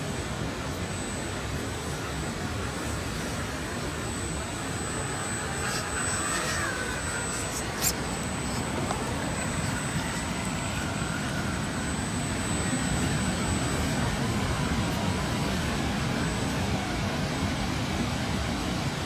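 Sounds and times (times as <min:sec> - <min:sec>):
electric motor whining: 0:00.0 - 0:19.0
thin high tone: 0:00.1 - 0:17.1.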